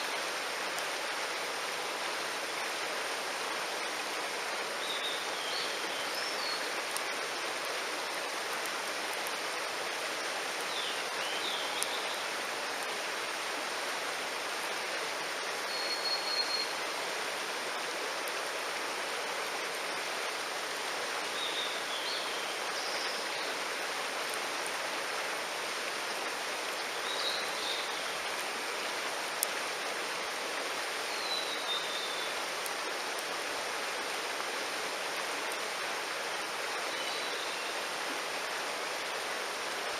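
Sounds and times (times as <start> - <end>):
mountain stream running: 0.0 - 39.9.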